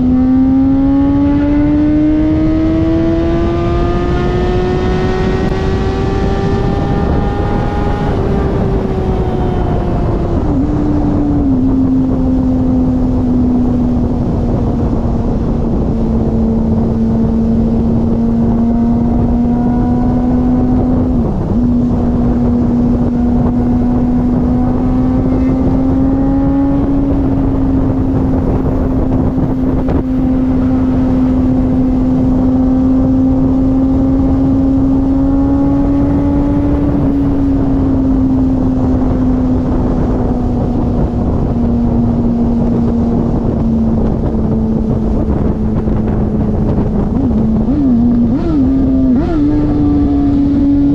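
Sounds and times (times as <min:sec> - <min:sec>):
motorcycle exhaust cruising: 0:00.0 - 0:50.9
wind rushing over microphone: 0:00.0 - 0:50.9.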